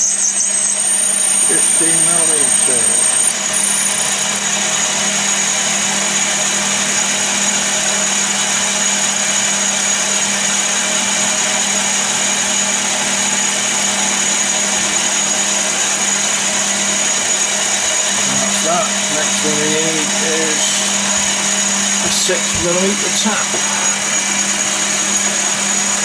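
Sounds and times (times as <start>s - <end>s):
high drilling whine: 0.0s - 26.0s
lathe motor and gear hum: 0.0s - 26.0s.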